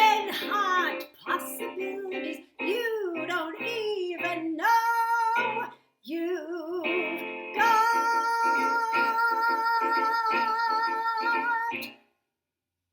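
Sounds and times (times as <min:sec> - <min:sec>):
woman singing: 0:00.0 - 0:11.9.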